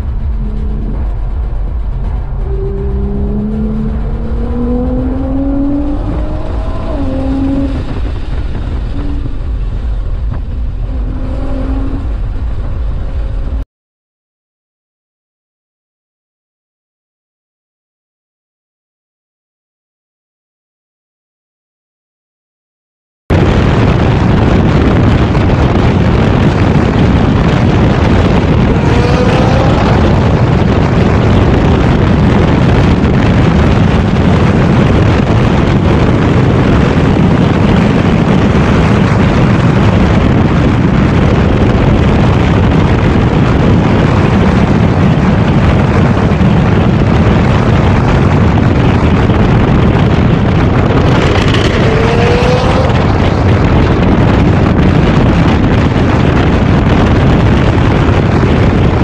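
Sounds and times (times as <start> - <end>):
car engines running hard: 0.0 - 13.6, 23.3 - 59.0
wind buffeting microphone: 0.0 - 13.6, 23.3 - 59.0.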